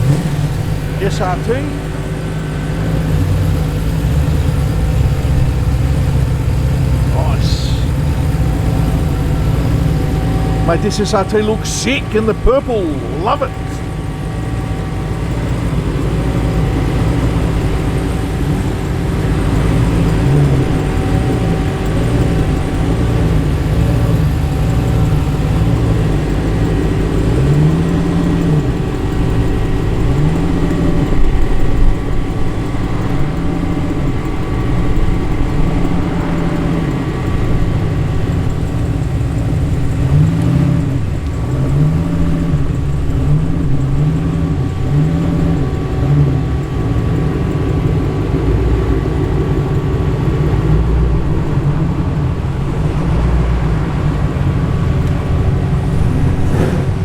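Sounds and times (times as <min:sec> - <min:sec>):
car engines rumbling: 0:00.0 - 0:57.0
engine throttle blips: 0:00.0 - 0:57.0.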